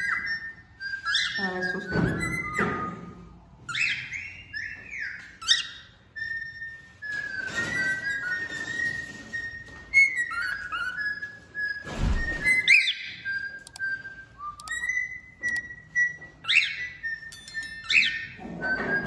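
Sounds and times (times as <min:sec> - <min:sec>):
cockatiel whistling: 0:00.0 - 0:19.0.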